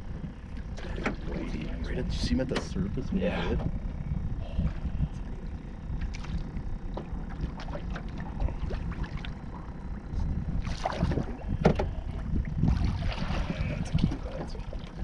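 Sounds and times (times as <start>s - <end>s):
wind rumble: 0.0s - 15.0s.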